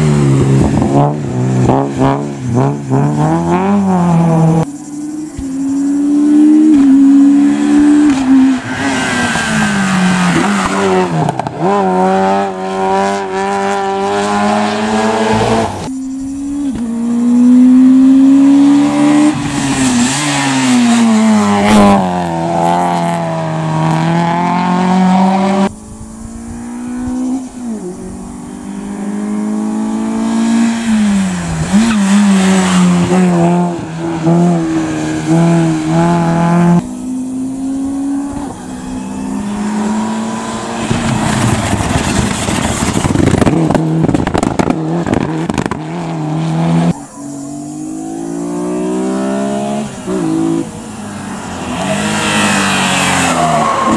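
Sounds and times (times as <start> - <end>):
race cars accelerating hard: 0.0 - 53.9.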